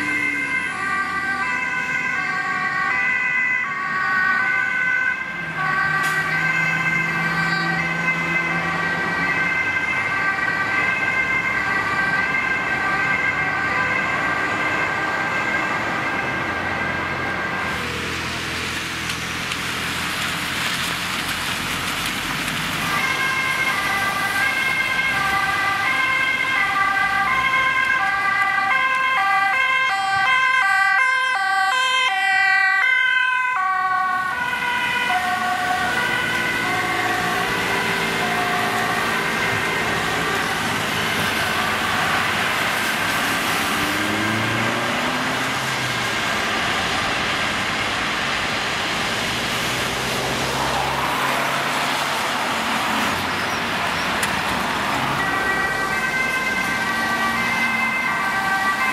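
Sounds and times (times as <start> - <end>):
ambulance two-tone siren: 0.0 - 18.7, 22.8 - 48.0, 53.2 - 58.9
fire engine siren: 0.0 - 58.9
traffic on a wet road: 0.0 - 58.9.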